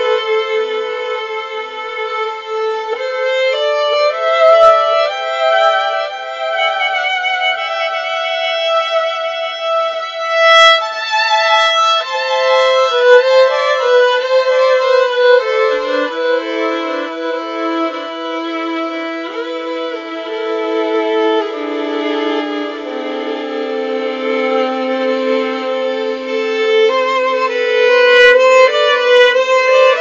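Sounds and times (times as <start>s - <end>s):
lower violin line: 0.0s - 30.0s
slow violin melody: 0.0s - 30.0s.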